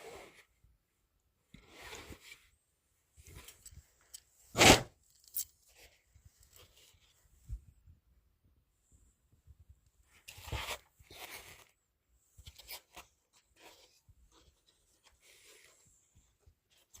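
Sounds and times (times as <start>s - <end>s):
rustling and scraping handling noise: 0.0s - 17.0s.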